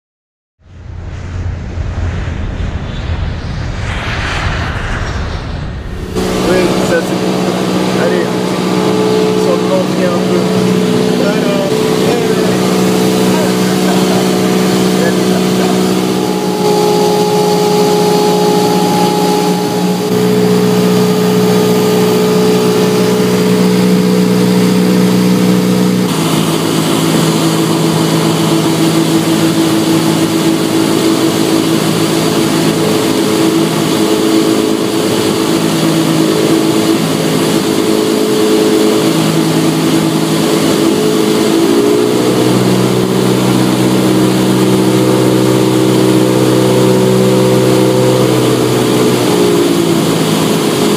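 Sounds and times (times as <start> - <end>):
airplane engine and propeller droning: 0.6 - 50.9.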